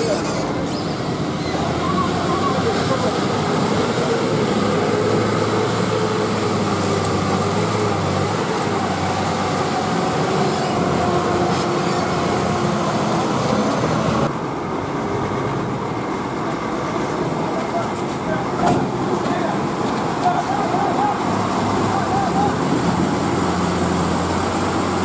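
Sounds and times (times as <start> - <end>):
diesel lorry engine running: 0.0 - 25.0.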